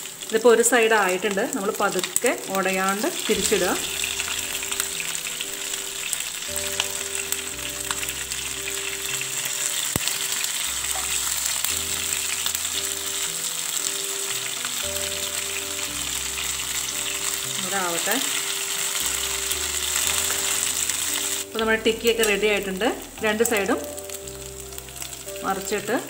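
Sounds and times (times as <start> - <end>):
oil sizzling in a pan: 0.0 - 26.0
soft background music: 0.0 - 26.0.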